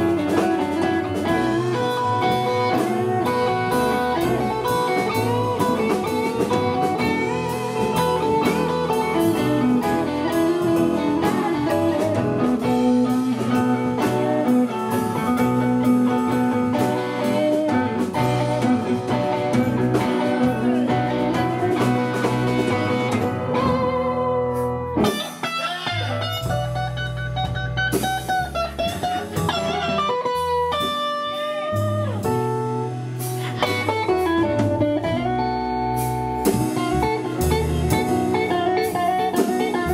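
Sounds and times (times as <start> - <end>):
blues band playing: 0.0 - 39.9
guitar bending notes: 0.0 - 39.9.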